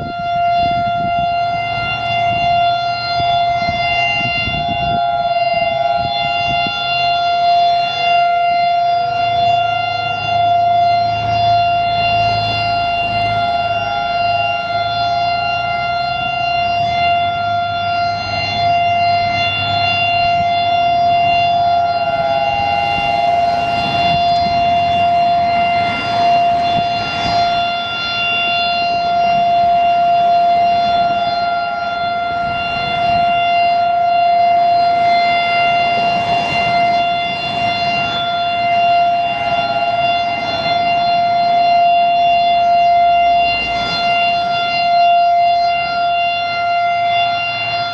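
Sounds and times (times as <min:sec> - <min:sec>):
outdoor warning siren tone: 0:00.0 - 0:47.9.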